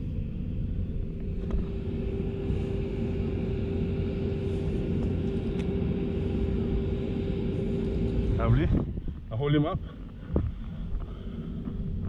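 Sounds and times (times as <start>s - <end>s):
low droning rumble: 0.0s - 12.0s.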